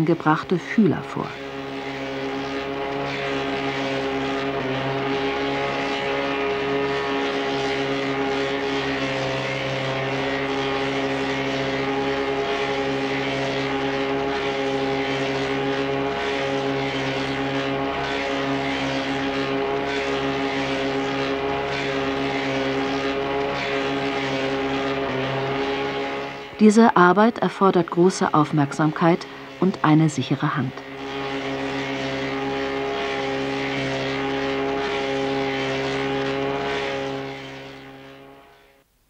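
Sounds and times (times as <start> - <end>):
boring machine motor hum: 0.0 - 38.8.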